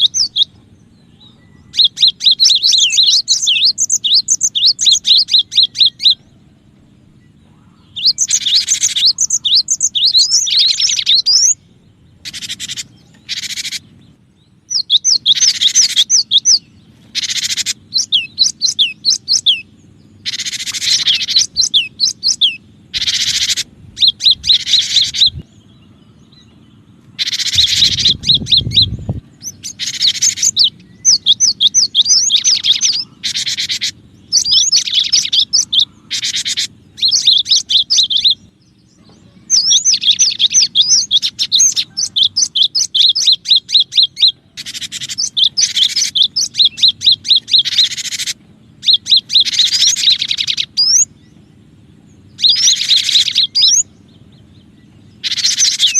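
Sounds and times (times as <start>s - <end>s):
bird buzzy churrs: 0.0s - 55.9s
bird high chirps: 0.0s - 55.9s
faint low hum: 0.0s - 55.9s.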